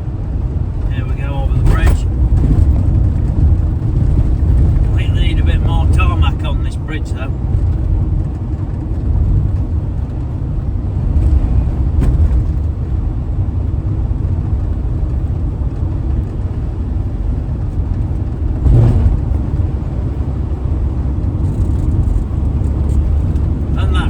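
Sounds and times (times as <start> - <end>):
van engine and tyre rumble: 0.0 - 24.0.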